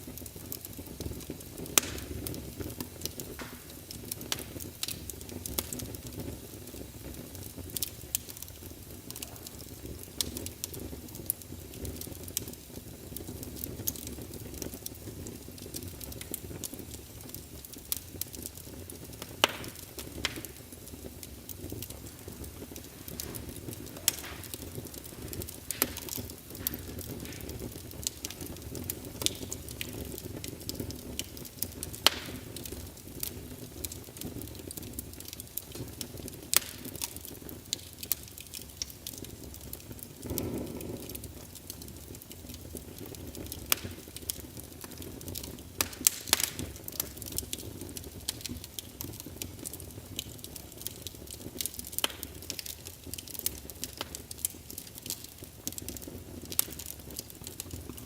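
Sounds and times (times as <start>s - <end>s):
whoosh of flame: 0.0s - 48.5s
wood fire crackling: 0.0s - 58.0s.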